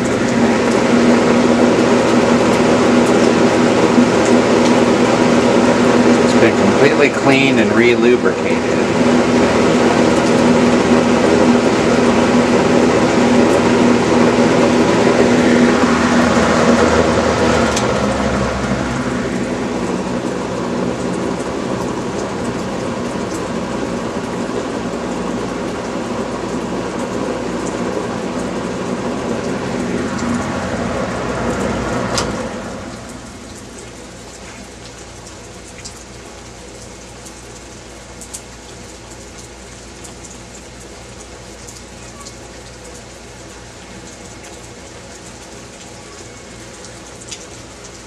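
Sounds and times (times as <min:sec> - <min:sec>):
box fan running: 0:00.0 - 0:48.0.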